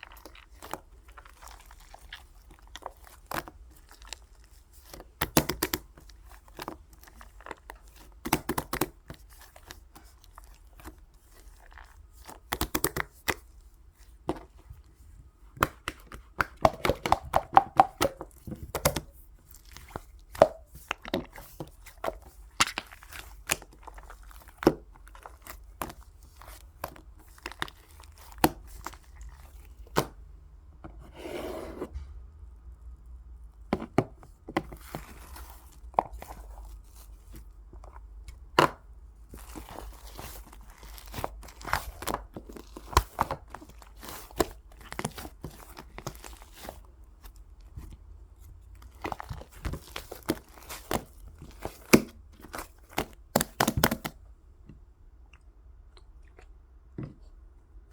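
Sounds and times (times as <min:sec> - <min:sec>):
slime squishing with clicks and pops: 0:00.0 - 0:13.8, 0:15.5 - 0:30.3, 0:33.7 - 0:46.5, 0:48.8 - 0:57.5.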